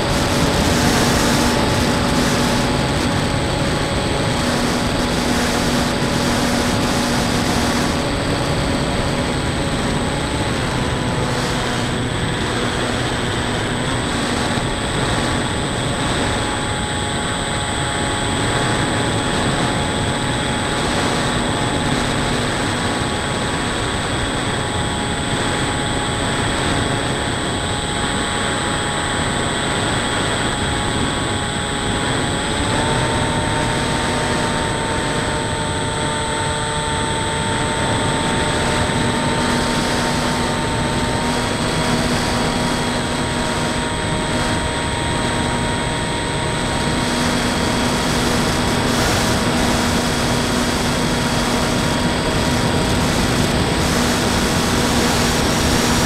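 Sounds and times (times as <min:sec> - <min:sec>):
electric motor and propeller whine: 0:00.0 - 0:56.0
wind rushing over camera: 0:00.0 - 0:56.0.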